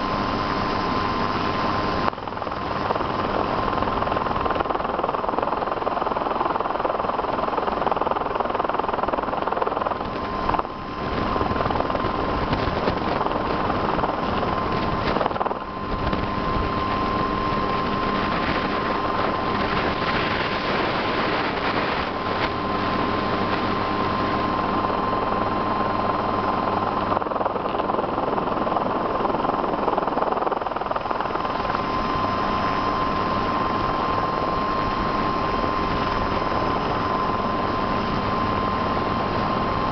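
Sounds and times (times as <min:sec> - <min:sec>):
helicopter hovering drone: 0:00.0 - 0:39.9.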